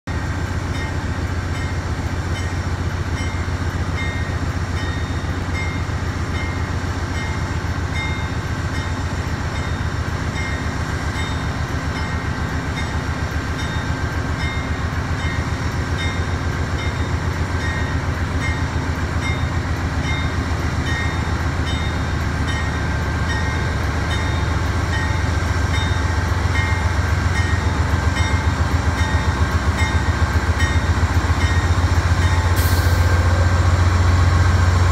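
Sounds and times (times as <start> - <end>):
diesel locomotives pulsing: 0.1 - 34.9.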